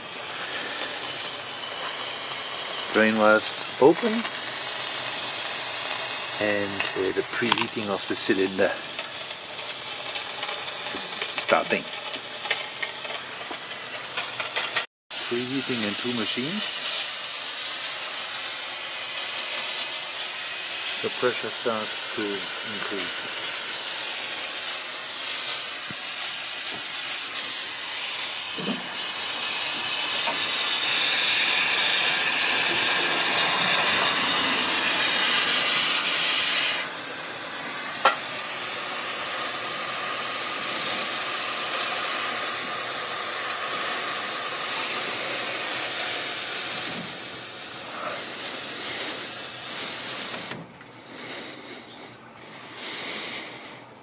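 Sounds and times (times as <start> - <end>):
steam hissing: 0.0 - 54.0.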